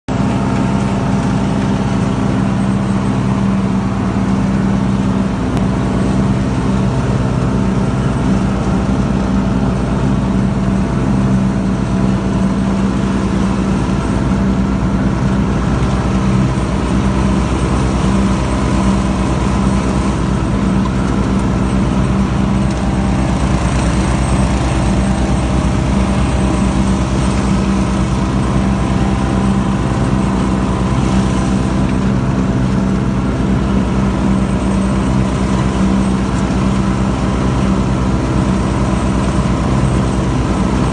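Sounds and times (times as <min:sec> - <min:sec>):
lawnmower engine running: 0:00.1 - 0:40.9.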